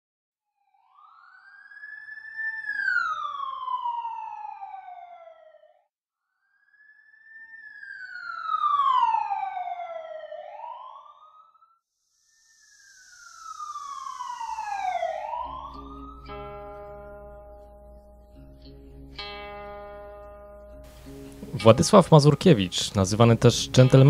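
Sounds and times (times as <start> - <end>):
siren wailing: 0.6 - 22.4.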